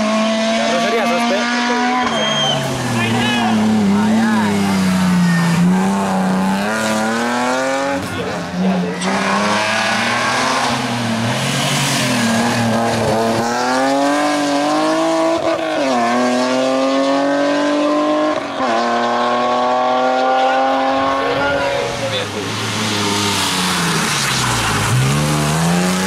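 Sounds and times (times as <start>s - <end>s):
car engine revving hard: 0.0s - 26.0s.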